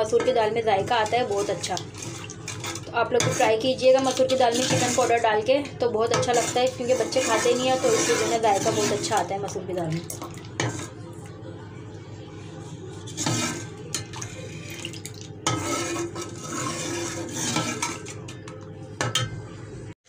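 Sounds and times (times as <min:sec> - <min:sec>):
ladle stirring in a metal pot: 0:00.0 - 0:11.2, 0:12.6 - 0:19.5.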